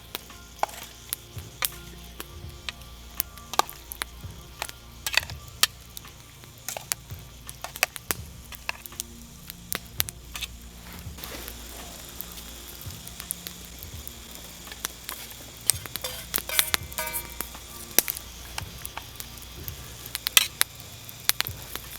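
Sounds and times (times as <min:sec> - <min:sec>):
campfire crackling: 0:00.0 - 0:21.9
food sizzling in a pan: 0:00.0 - 0:21.9.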